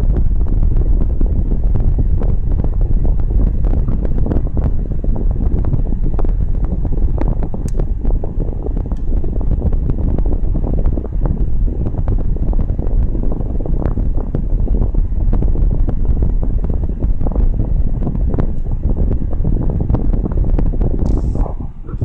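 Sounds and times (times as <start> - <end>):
air buffeting microphone: 0.0 - 22.0.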